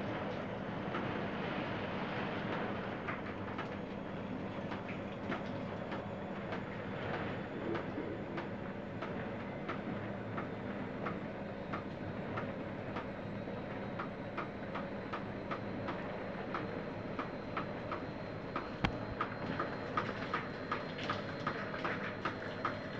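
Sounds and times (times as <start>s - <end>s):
regular tapping of rain drips: 0.1s - 1.2s, 2.1s - 22.9s.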